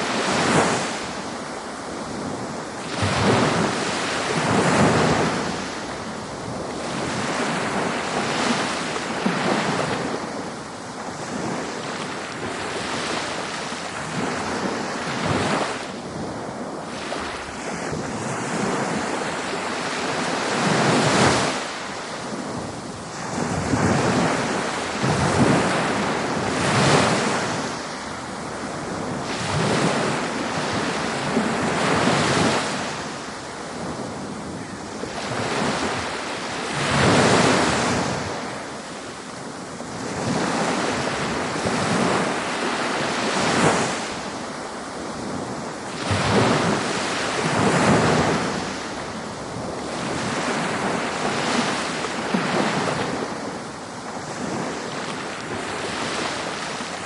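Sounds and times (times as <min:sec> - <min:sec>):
hiss of surf: 0:00.0 - 0:57.0
ocean waves crashing: 0:00.0 - 0:57.0.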